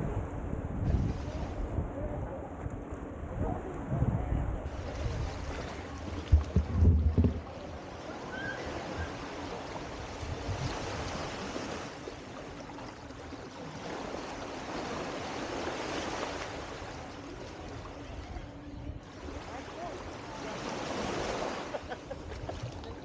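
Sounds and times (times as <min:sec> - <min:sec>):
small waves washing on beach: 0:00.8 - 0:01.8, 0:04.6 - 0:23.0.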